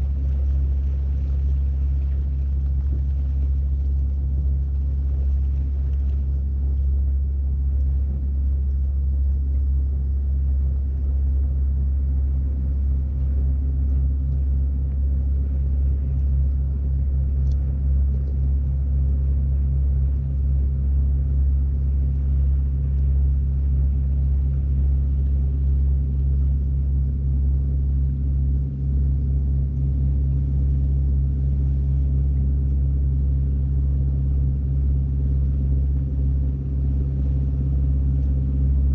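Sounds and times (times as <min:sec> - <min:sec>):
engine droning steadily: 0:00.0 - 0:38.9.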